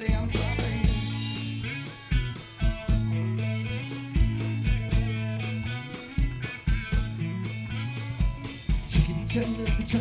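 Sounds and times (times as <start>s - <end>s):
bass guitar: 0.0s - 10.0s
drum kit: 0.0s - 10.0s
electric guitar: 0.0s - 10.0s.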